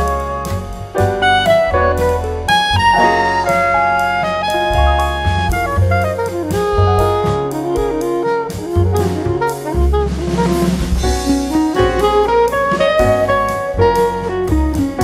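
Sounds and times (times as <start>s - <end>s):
drum kit: 0.0s - 15.0s
jazz music with saxophone lead: 0.0s - 15.0s.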